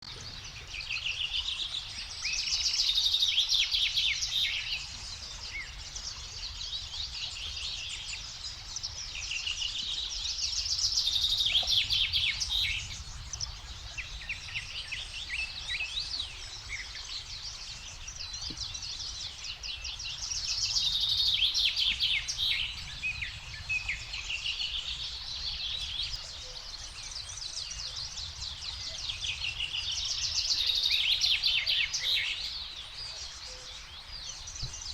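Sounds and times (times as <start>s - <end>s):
bird song of rapid chattering notes: 0.0s - 34.9s.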